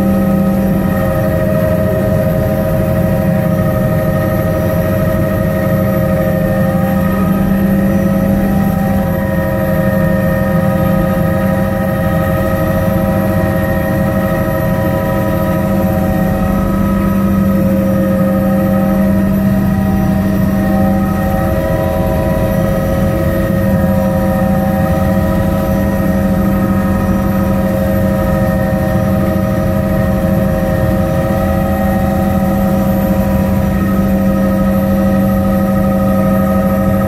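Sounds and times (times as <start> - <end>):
helicopter engine and rotors: 0.0 - 37.0
whining tones: 0.0 - 37.0.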